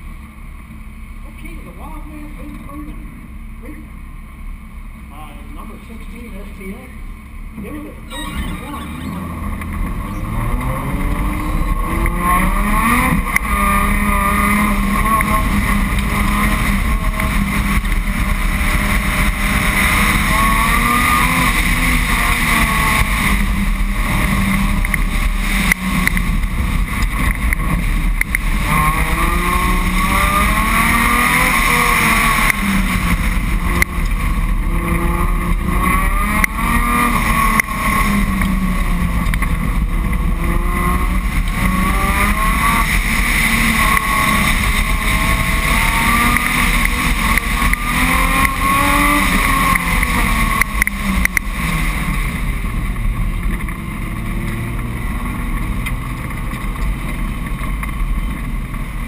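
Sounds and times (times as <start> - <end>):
car engine revving hard: 8.1 - 57.2
steady rushing noise: 8.2 - 59.0.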